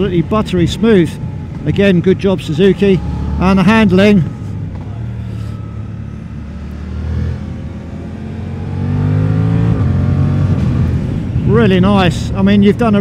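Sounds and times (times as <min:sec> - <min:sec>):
motorcycle engine accelerating: 0:00.0 - 0:12.1.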